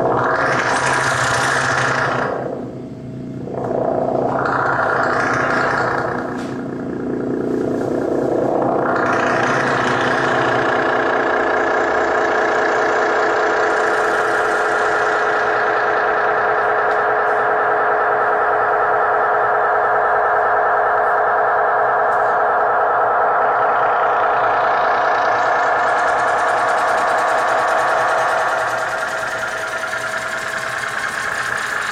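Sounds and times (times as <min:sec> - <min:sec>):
distorted noise music drone: 0:00.0 - 0:31.9.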